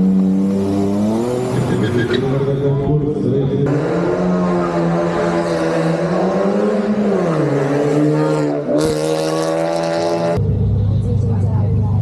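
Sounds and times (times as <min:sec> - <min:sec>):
race car engine at high revs: 0:00.0 - 0:10.8.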